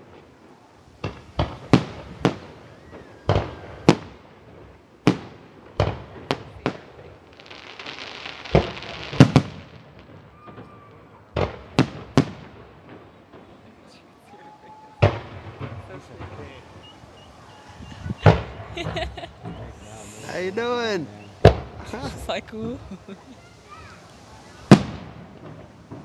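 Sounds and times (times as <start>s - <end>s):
hissing crackle: 0.0s - 13.7s, 15.0s - 26.0s
fireworks bangs: 0.0s - 26.0s.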